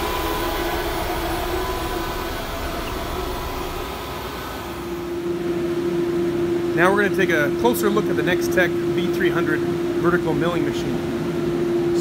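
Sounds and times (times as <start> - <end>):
machinery hum with hiss: 0.0 - 12.0.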